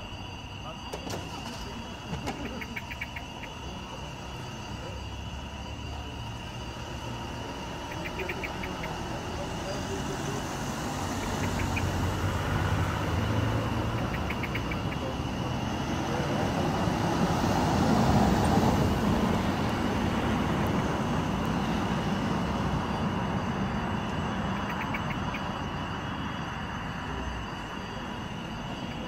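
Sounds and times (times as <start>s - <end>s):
street traffic rumbling: 0.0s - 29.0s.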